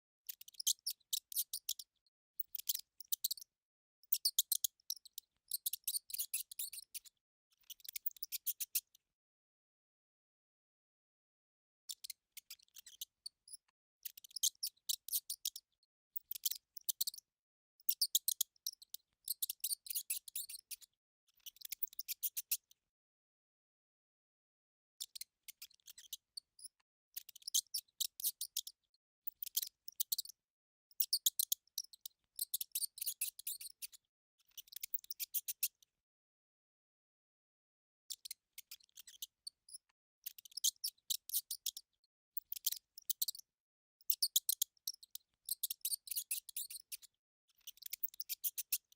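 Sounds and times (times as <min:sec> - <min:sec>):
mouse squeaking: 0:00.3 - 0:08.9, 0:11.9 - 0:17.2, 0:17.8 - 0:22.7, 0:25.0 - 0:35.8, 0:38.1 - 0:43.4, 0:44.0 - 0:48.9.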